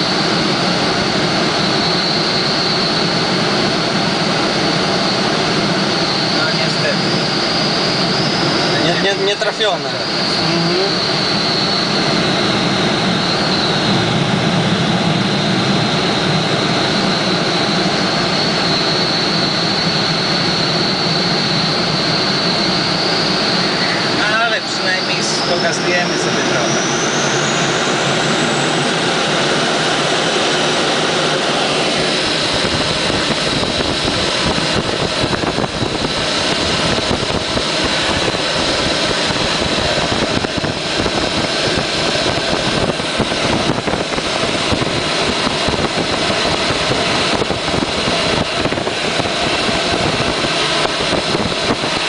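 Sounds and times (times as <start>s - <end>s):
deep rumble: 0.0s - 52.0s
rush of airflow in cockpit: 0.0s - 52.0s.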